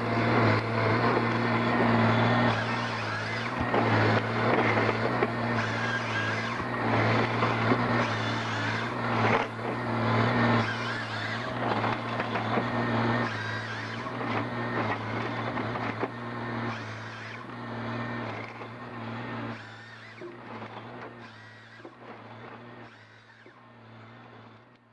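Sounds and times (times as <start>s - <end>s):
low engine drone: 0.0s - 24.8s
machinery crackling and clattering: 0.0s - 24.8s.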